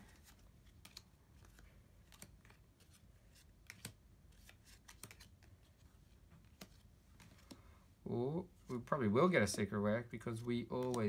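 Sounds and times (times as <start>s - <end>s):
clicks of cards being handled: 0.1s - 7.6s, 8.6s - 11.0s.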